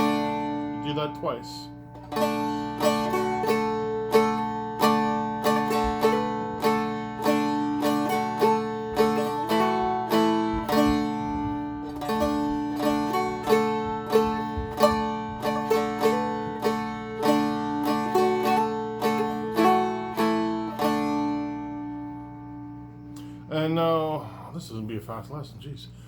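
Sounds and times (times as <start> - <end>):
plucked dulcimer melody: 0.0 - 23.2
drone strings: 0.0 - 24.3.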